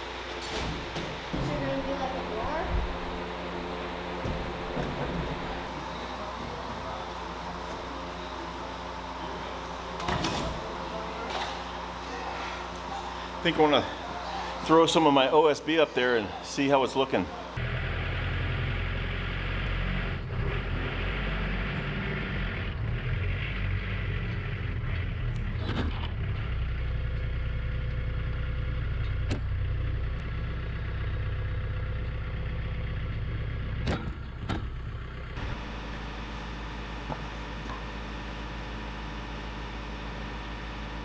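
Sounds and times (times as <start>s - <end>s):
engine running: 0.0s - 15.6s, 17.3s - 41.0s.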